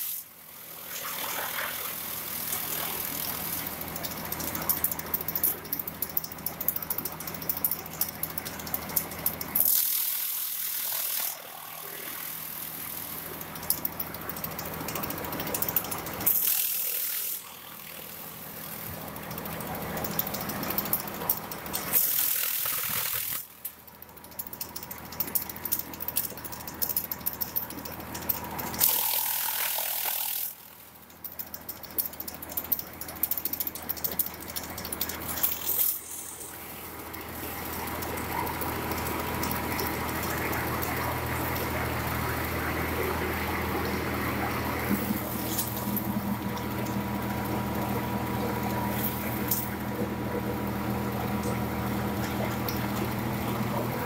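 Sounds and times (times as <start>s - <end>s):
machine hum: 0.0s - 9.8s, 10.6s - 54.0s
stalks clicking and rattling: 0.0s - 54.0s.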